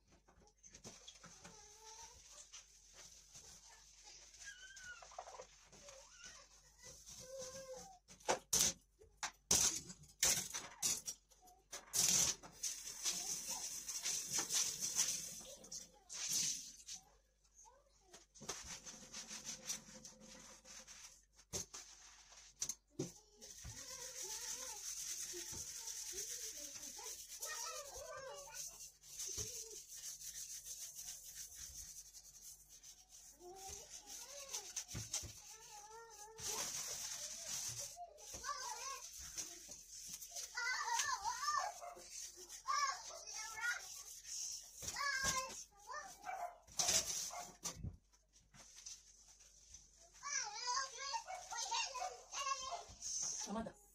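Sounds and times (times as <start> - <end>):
sponge scrubbing: 0.7 - 8.0, 12.0 - 17.1, 18.4 - 47.7, 48.5 - 53.6.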